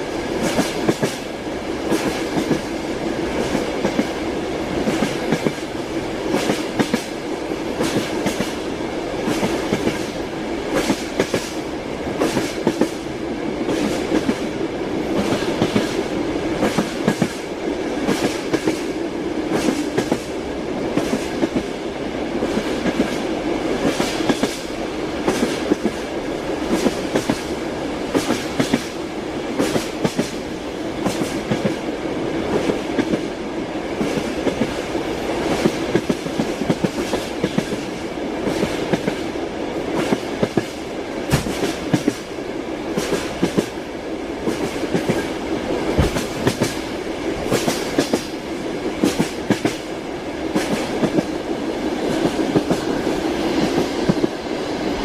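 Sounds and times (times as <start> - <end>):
railway carriage rumble: 0.0 - 55.0
train wheels clicking over rail joints: 0.4 - 2.8, 3.4 - 14.5, 15.1 - 21.8, 22.4 - 31.9, 35.4 - 43.8, 44.4 - 54.4.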